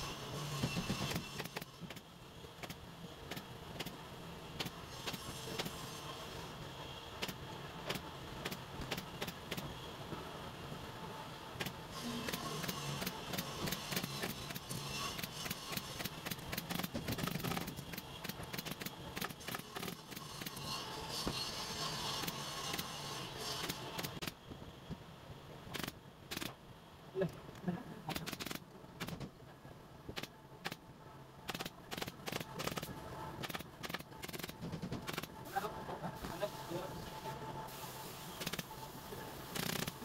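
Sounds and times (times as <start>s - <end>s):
noisy workshop din: 0.0s - 40.0s.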